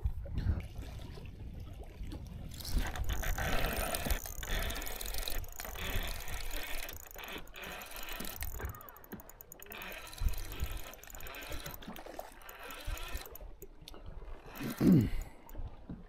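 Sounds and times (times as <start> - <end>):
fishing reel ratcheting and whirring: 2.5 - 15.6.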